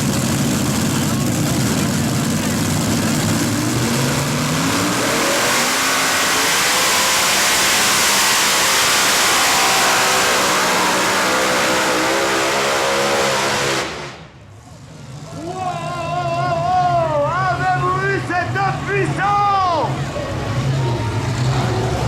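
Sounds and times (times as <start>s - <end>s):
tractor engines at full power: 0.0s - 22.0s.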